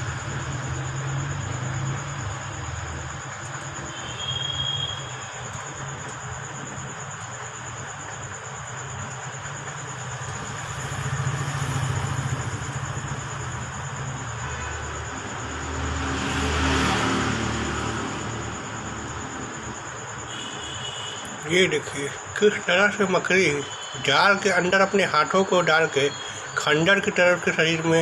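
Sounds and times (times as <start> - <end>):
rumble of passing vehicles: 0.0 - 28.0.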